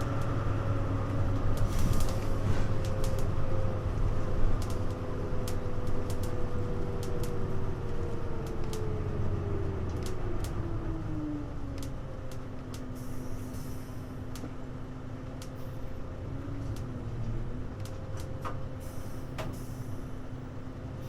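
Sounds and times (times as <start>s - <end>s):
bus drivetrain rumble: 0.0s - 21.0s.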